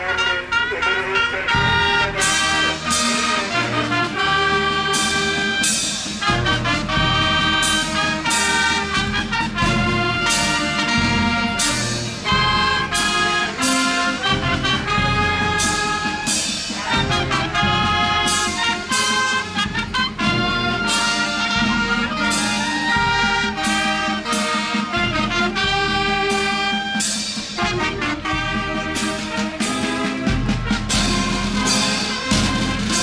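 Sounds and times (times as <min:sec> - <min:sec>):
brass band playing a march: 0:00.0 - 0:33.0.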